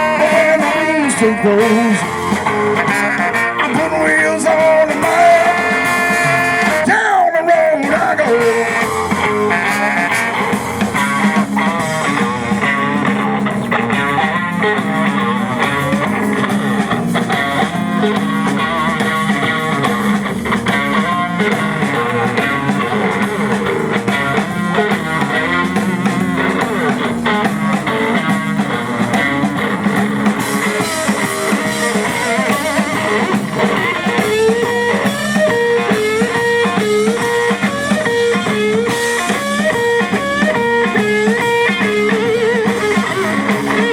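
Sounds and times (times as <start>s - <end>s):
bass: 0.0s - 43.9s
drum kit: 0.0s - 43.9s
electric guitar lead run: 0.0s - 43.9s.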